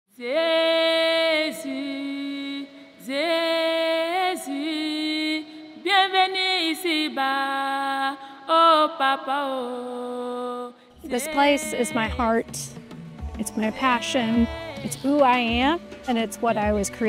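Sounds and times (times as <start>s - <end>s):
woman singing chant-like: 0.2s - 12.8s, 13.4s - 15.8s.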